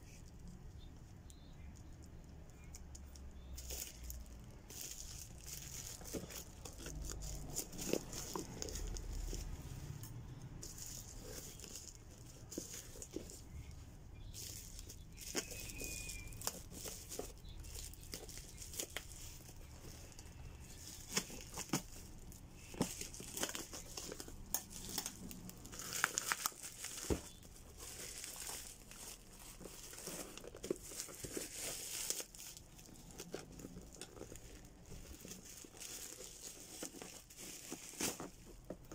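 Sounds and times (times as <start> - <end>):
bubble wrap crinkling: 0.0 - 38.9.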